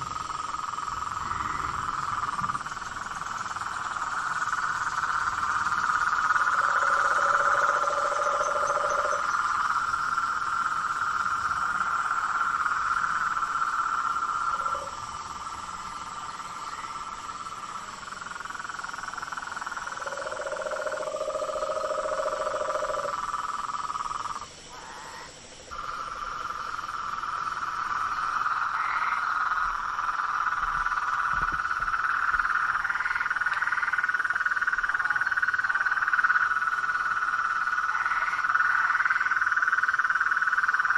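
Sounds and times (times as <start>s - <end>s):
frogs trilling: 0.0s - 40.9s
low frog croaking: 0.0s - 40.9s.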